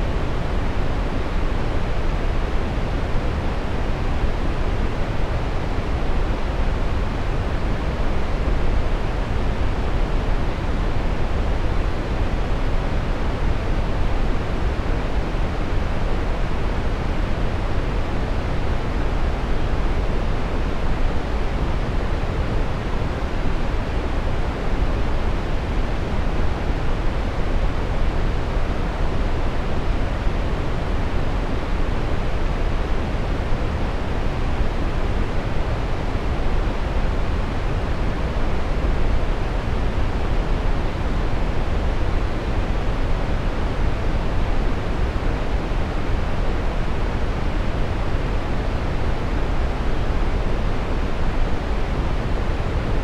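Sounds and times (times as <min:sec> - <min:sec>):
brown noise: 0:00.0 - 0:53.0.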